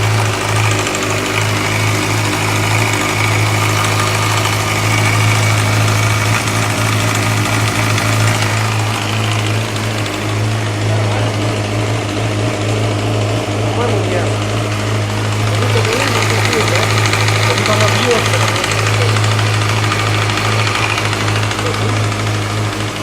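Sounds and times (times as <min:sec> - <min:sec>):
engine ticking clatter: 0:00.0 - 0:23.0
motorcycle engine idling: 0:00.0 - 0:23.0.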